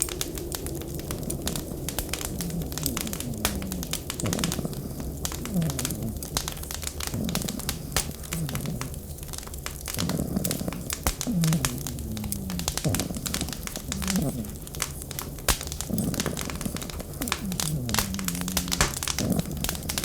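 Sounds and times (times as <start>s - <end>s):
moaning wind: 0.0s - 20.0s
wood fire crackling: 0.0s - 20.0s.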